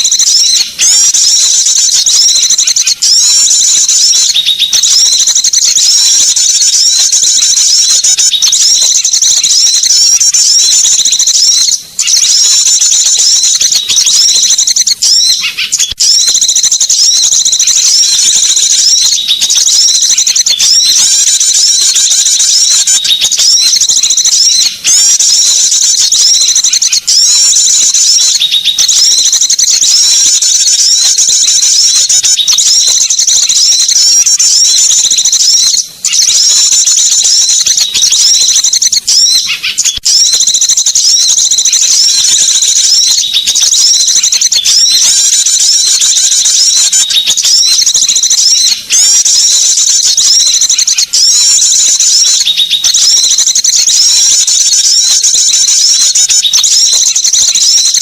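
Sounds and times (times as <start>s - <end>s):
songbirds chattering: 0.0s - 58.0s.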